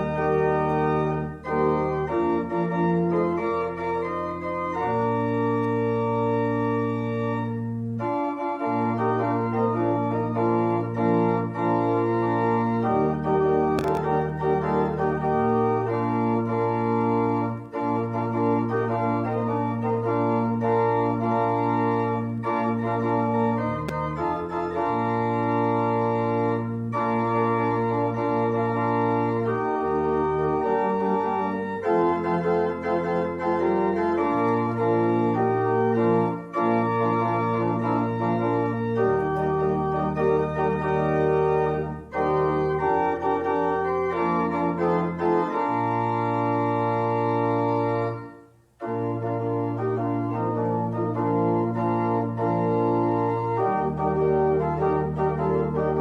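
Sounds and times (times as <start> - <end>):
organ playing chords: 0.0 - 56.0.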